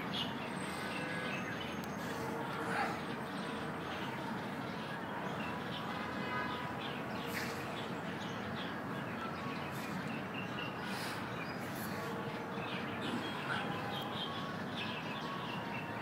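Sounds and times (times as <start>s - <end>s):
outdoor ambience: 0.0s - 16.0s
small birds chirping: 0.0s - 16.0s.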